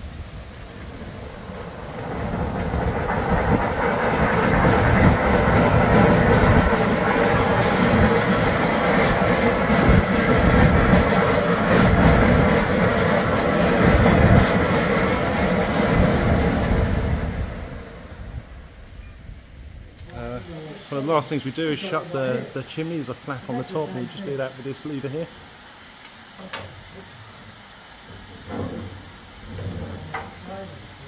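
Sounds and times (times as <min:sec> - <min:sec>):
steam and water blasting from pipe: 0:00.0 - 0:19.0, 0:19.9 - 0:31.0.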